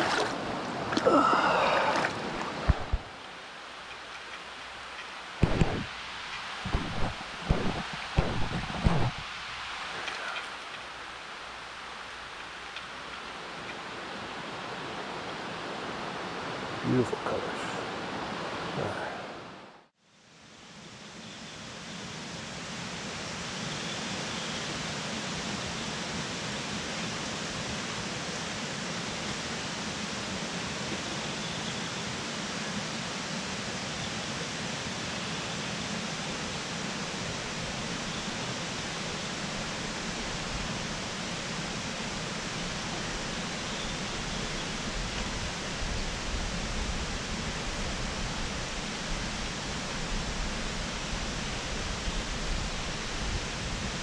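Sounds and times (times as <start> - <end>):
creek water rushing over rocks: 0.0 - 19.7, 24.4 - 54.0.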